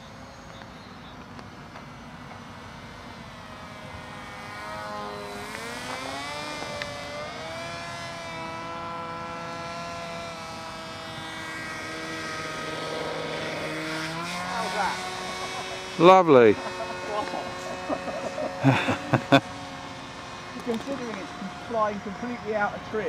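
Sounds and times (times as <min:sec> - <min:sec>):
model aeroplane buzzing drone: 0:00.0 - 0:23.0.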